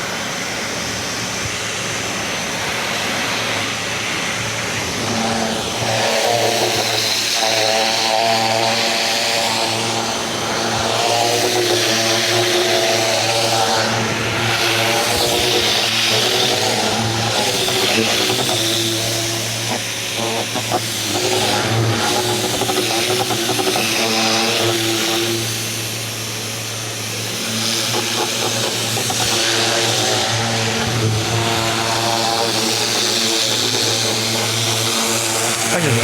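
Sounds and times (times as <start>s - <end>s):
pressure washer humming: 0.0s - 36.0s
water jet hissing on fence: 0.0s - 36.0s.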